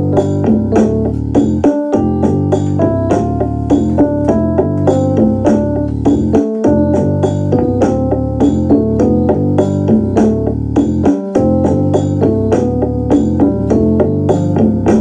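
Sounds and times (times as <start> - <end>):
piano-like keyboard run: 0.0 - 15.0
sustained low bass: 0.0 - 15.0.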